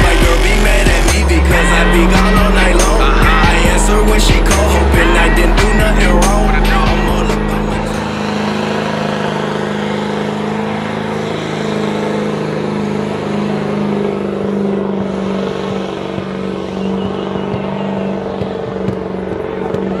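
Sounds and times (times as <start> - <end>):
car engine at high revs: 0.0 - 20.0
spinning tyres rushing: 0.0 - 20.0.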